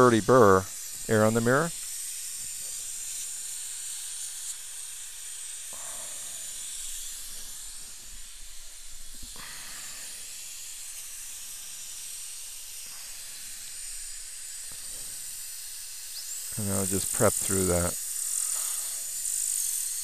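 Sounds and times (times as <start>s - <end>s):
dental drill high hiss: 0.0s - 20.0s.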